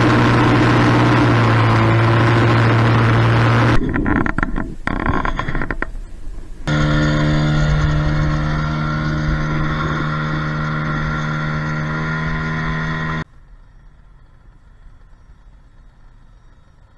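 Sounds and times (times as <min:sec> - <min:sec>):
boat motor running: 0:00.0 - 0:05.8, 0:06.6 - 0:16.9.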